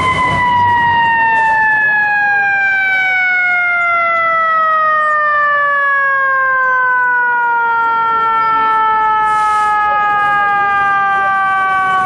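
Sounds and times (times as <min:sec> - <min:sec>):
siren winding down: 0:00.0 - 0:12.0.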